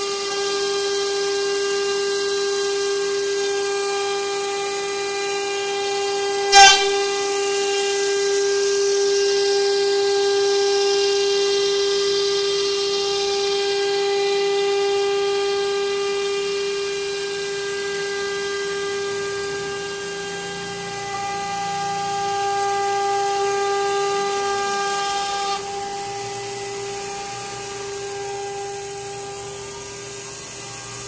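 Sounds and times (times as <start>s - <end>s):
router spindle whining: 0.0s - 31.0s.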